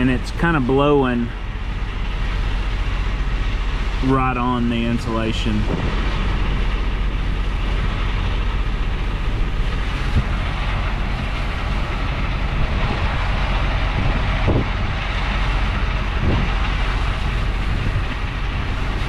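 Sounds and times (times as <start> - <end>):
constant low rumble: 0.0 - 19.0
gusty storm wind: 0.0 - 19.0.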